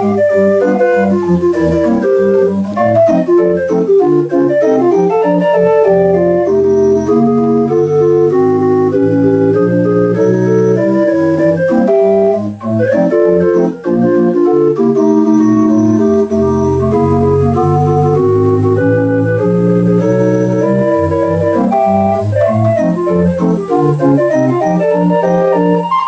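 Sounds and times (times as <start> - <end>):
pipe organ playing ragtime: 0.0 - 26.0.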